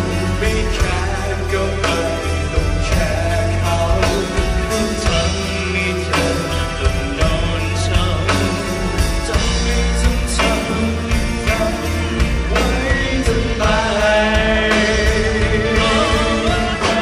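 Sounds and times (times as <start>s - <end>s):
live pop-rock band: 0.0s - 17.0s
men singing into microphones: 0.0s - 17.0s.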